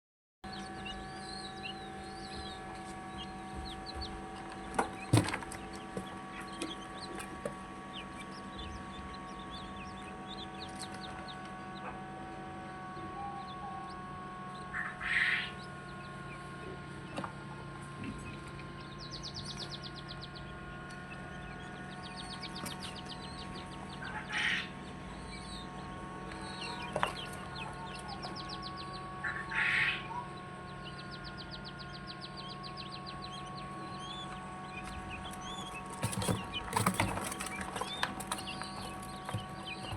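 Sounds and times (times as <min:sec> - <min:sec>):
chicks peeping: 0:00.5 - 0:39.9
steady hum: 0:00.5 - 0:39.9.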